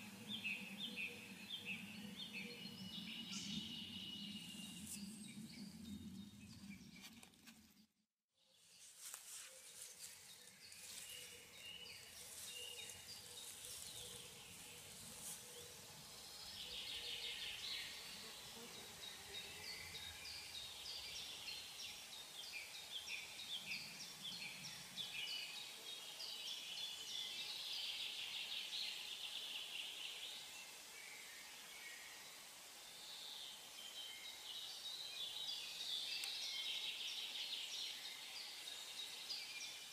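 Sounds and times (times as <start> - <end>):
birds singing: 0.0 - 7.3, 9.7 - 39.9
faint background noise: 0.0 - 39.9.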